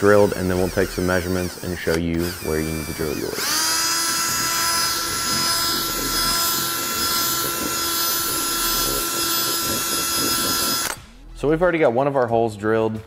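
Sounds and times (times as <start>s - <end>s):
cordless drill drilling plastic: 0.0s - 11.1s.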